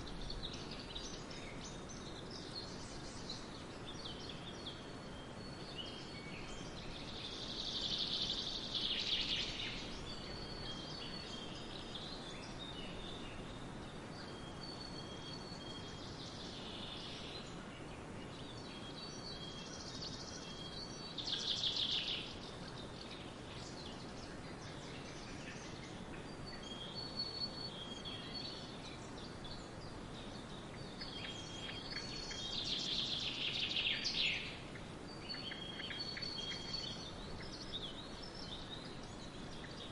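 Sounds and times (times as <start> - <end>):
songbirds singing: 0.0 - 39.9
steady background hiss: 0.0 - 39.9
thin whistled bird notes: 0.0 - 39.9.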